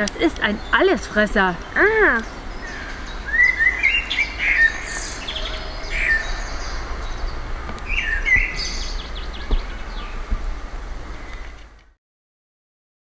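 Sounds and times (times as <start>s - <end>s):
low steady rumble: 0.0s - 11.9s
birds chirping: 0.0s - 12.0s.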